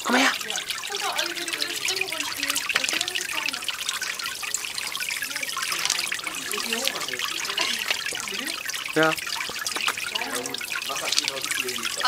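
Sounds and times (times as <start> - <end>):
garden fountain water trickling: 0.0 - 12.0.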